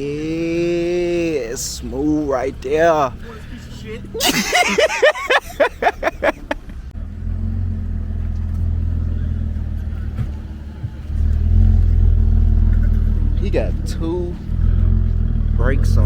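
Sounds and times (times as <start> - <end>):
car engine exhaust rumble: 0.0 - 16.0.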